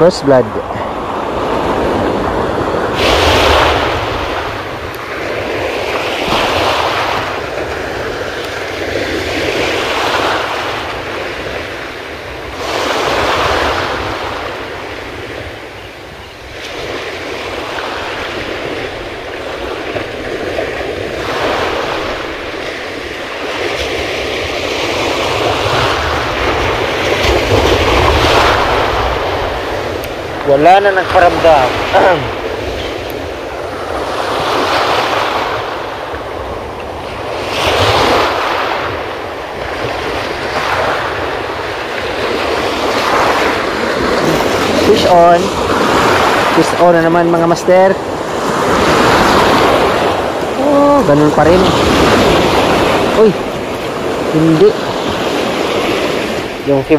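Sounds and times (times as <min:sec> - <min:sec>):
surf washing up stony beach: 0:00.0 - 0:56.9.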